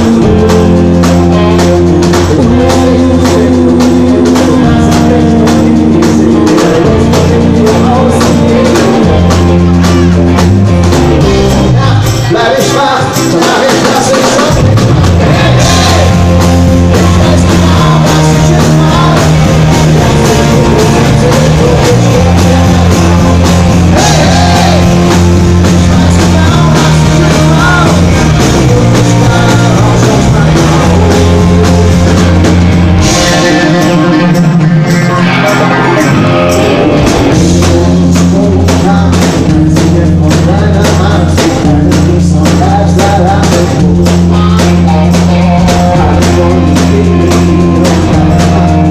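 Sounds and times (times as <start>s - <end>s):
bass notes: 0.0s - 48.9s
man singing: 0.0s - 48.9s
pop-rock band playing: 0.0s - 48.9s
steady drum beat: 0.0s - 48.9s.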